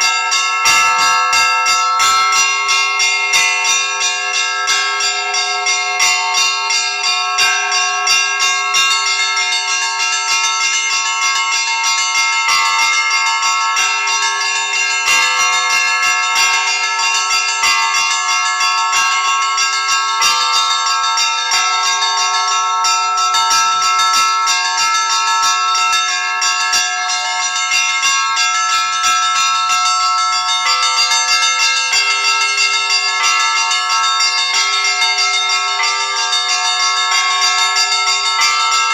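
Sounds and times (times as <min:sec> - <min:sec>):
large bells ringing: 0:00.0 - 0:38.9
small bells struck rapidly: 0:00.0 - 0:38.9.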